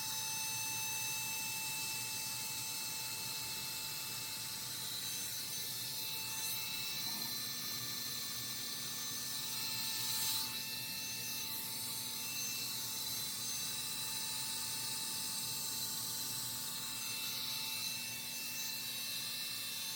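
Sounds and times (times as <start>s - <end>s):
hair dryer blowing air: 0.0s - 18.6s.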